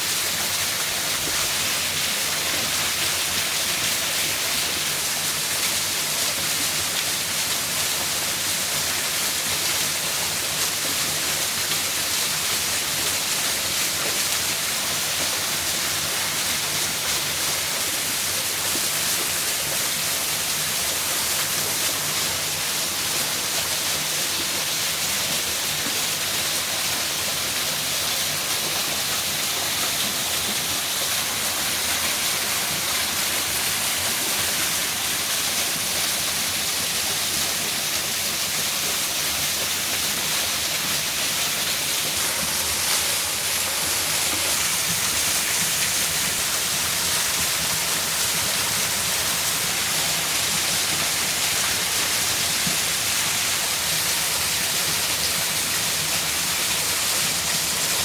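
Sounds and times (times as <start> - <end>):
waterfall pouring: 0.0 - 58.0.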